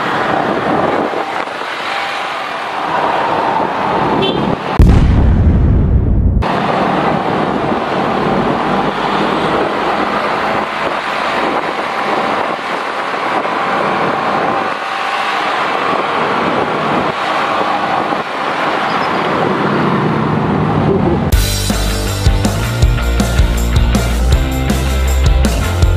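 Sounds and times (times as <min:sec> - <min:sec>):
traffic engines: 0:00.0 - 0:05.0, 0:06.4 - 0:25.9
wind and road noise: 0:00.0 - 0:25.9.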